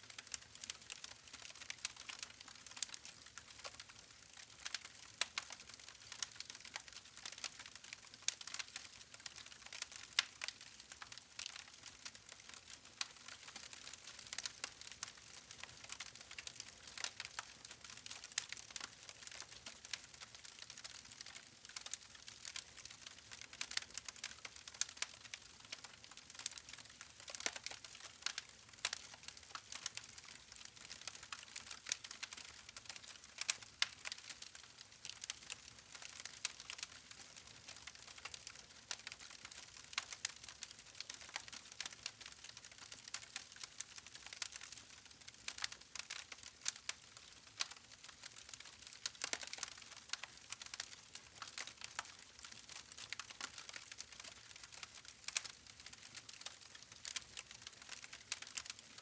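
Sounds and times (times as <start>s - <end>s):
campfire crackling and popping: 0.1s - 59.0s.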